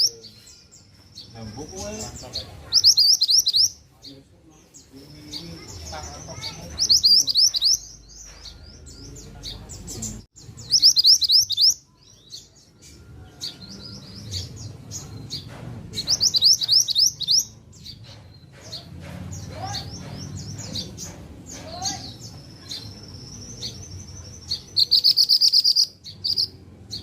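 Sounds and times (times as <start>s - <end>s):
songbird singing rapid high chirps: 0.0s - 27.0s.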